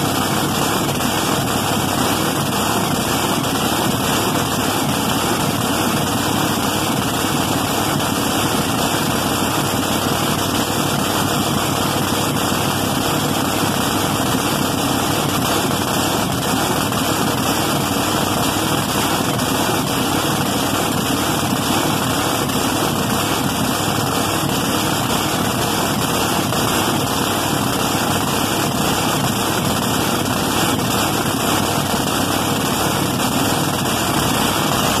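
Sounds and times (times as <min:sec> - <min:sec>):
engine idling through open headers: 0:00.0 - 0:35.0.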